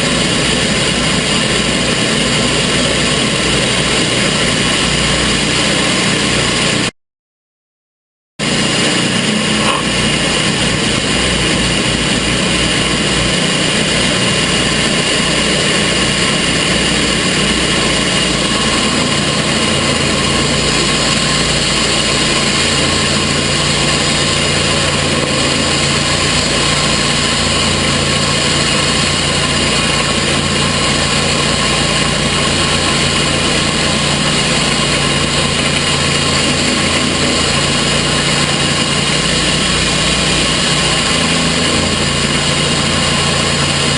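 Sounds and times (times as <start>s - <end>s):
sawmill engine running: 0.0s - 6.9s, 8.4s - 43.9s.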